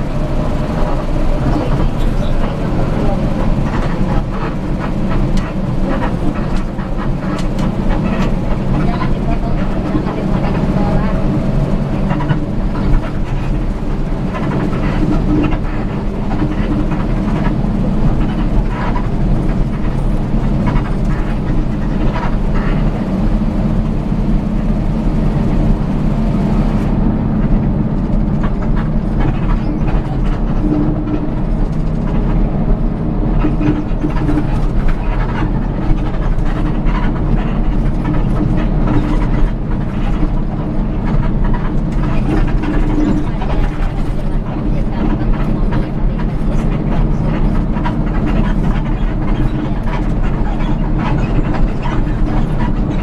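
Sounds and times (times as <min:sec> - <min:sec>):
vehicle engine and road hum: 0:00.0 - 0:53.0.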